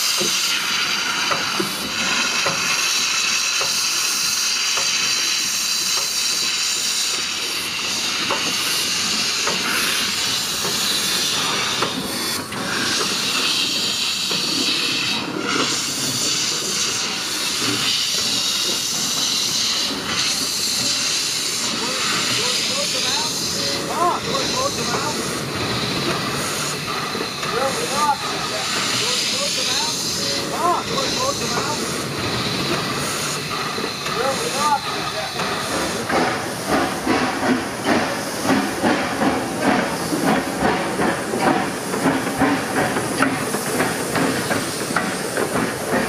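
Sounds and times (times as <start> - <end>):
steam locomotive hissing: 0.0 - 46.0.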